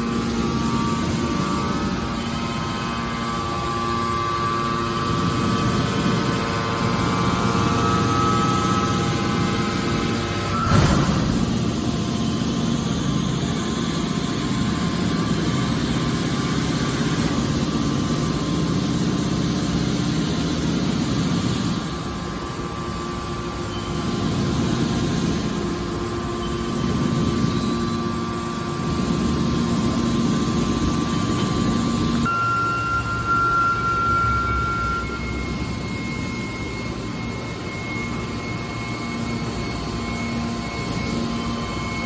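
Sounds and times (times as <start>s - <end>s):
hydraulic baler humming and whining: 0.0s - 42.0s.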